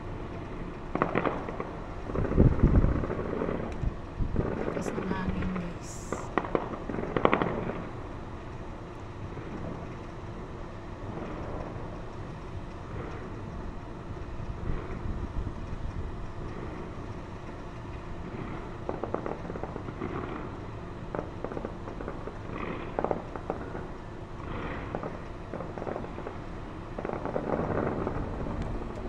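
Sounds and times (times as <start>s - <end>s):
distant fireworks crackling: 0.0s - 29.0s
steady low rumble: 0.0s - 29.0s.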